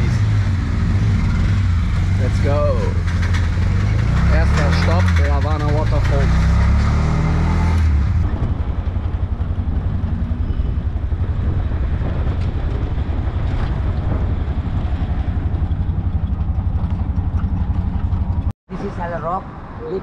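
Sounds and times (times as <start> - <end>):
auto-rickshaw engine putter: 0.0 - 18.5
road noise: 0.0 - 20.0.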